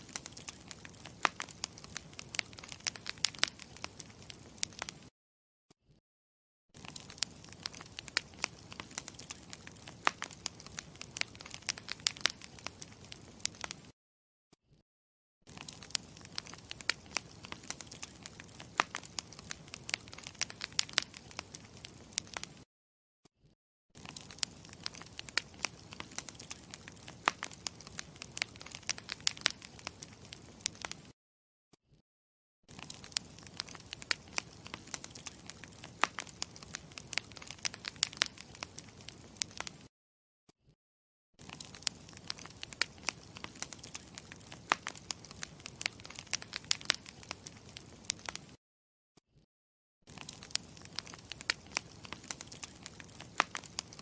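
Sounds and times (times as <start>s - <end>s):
hiss of burning wood: 0.0s - 5.0s, 6.8s - 13.8s, 15.5s - 22.5s, 24.0s - 31.0s, 32.8s - 39.7s, 41.4s - 48.4s, 50.1s - 54.0s
campfire crackling and popping: 0.0s - 5.1s, 6.8s - 13.9s, 15.5s - 22.6s, 24.0s - 31.1s, 32.7s - 39.9s, 41.4s - 48.6s, 50.1s - 54.0s.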